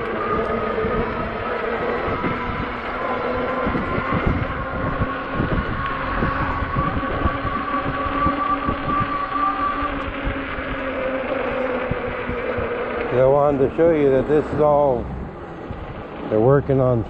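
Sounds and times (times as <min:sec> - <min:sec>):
electric motor whining: 0:00.0 - 0:17.0
road rumble: 0:00.0 - 0:17.0
wind buffeting microphone: 0:00.0 - 0:17.0.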